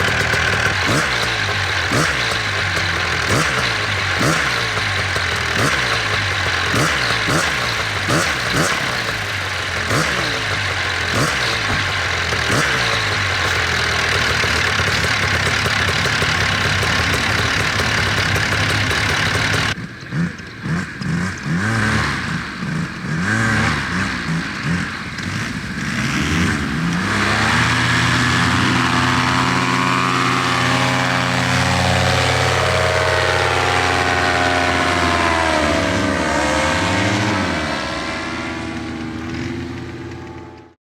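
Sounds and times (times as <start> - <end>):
engine revving in blips: 0.0 - 40.8
two-stroke paramotor engine: 0.0 - 40.8.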